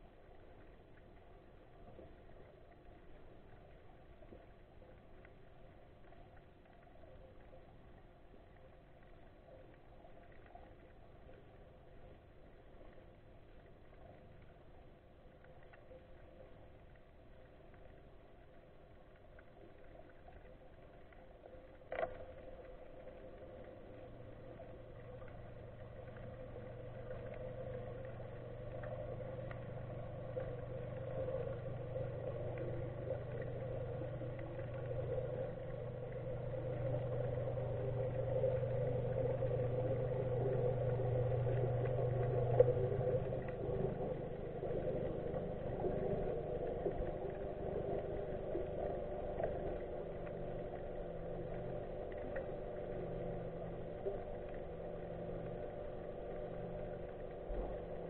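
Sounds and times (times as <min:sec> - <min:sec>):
faint ticks: 0:00.0 - 0:58.0
motorboat engine underwater hum: 0:00.0 - 0:58.0.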